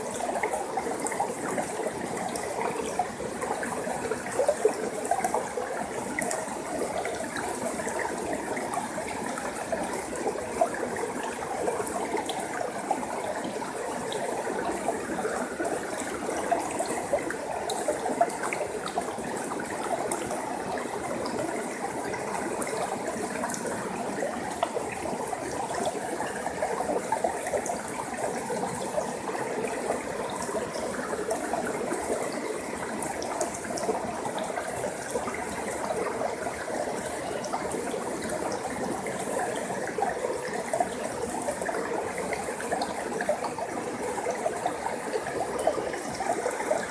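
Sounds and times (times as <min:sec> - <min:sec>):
stream babbling: 0:00.0 - 0:46.9.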